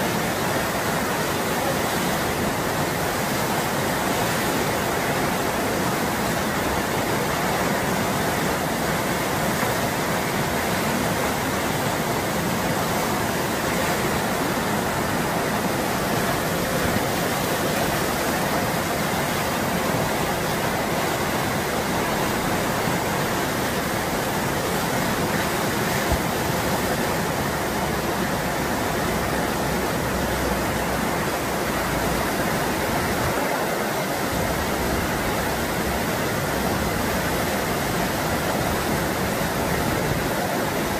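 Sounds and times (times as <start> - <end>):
whitewater rushing: 0.0 - 40.9.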